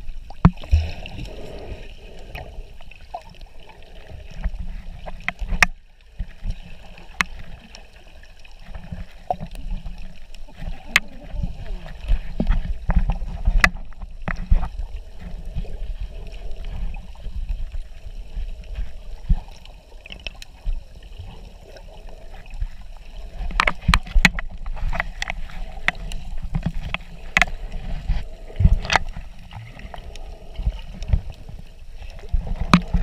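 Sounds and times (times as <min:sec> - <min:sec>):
muffled underwater rumble: 0:00.0 - 0:33.0.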